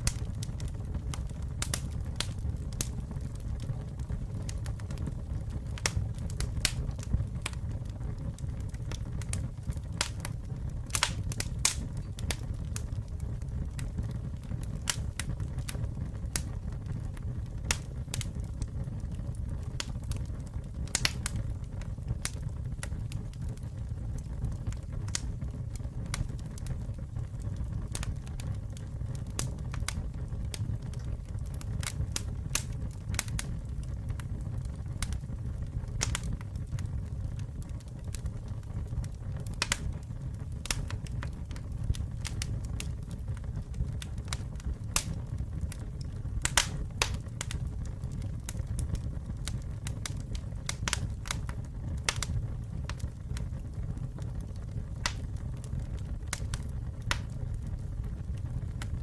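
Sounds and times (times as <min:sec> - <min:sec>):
burning wood popping: 0:00.0 - 0:24.0, 0:24.6 - 0:59.0
campfire burning and crackling: 0:00.0 - 0:59.0.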